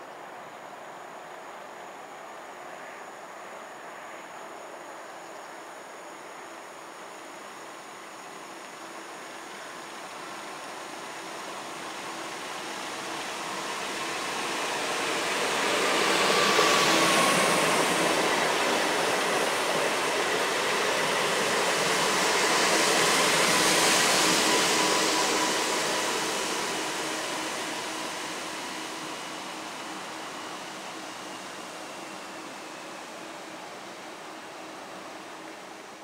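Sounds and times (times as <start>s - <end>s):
electric train passing: 5.6s - 36.0s.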